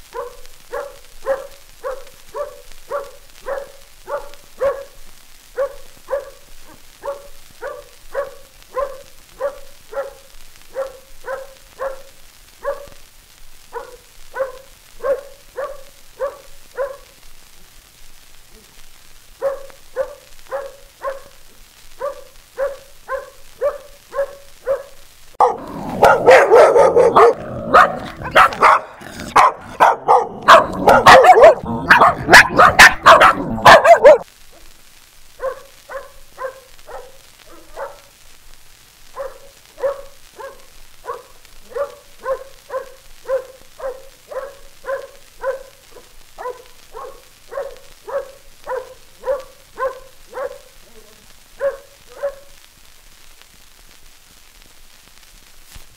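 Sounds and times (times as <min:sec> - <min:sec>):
dog barking: 0:00.0 - 0:13.0, 0:13.7 - 0:17.2, 0:19.4 - 0:34.3, 0:35.4 - 0:38.2, 0:39.1 - 0:50.8, 0:51.6 - 0:52.6.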